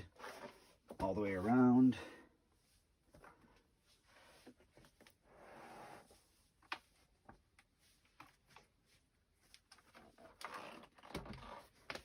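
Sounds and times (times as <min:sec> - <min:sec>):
soft rustles of handling: 0:00.0 - 0:12.0.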